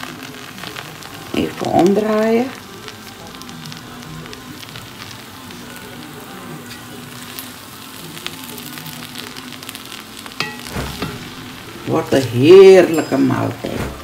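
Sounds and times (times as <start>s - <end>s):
faint background music: 0.0s - 14.0s
rice pot sizzling and bubbling: 0.0s - 14.0s.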